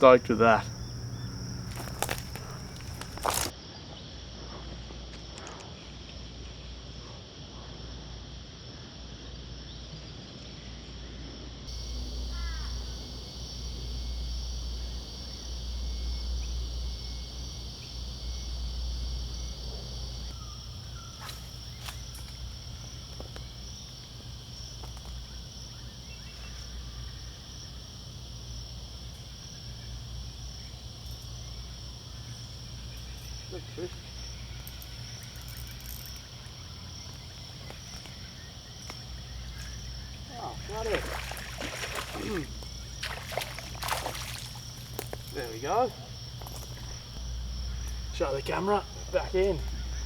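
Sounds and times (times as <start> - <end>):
insects trilling: 0.0 - 3.6, 11.7 - 50.0.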